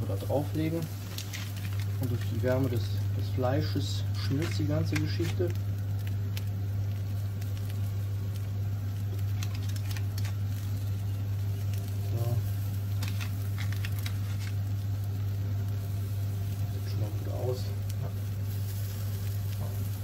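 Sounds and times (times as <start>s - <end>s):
onions sizzling in a pan: 0.0s - 20.0s
small crackles: 0.0s - 20.0s
steady low hum: 0.0s - 20.0s.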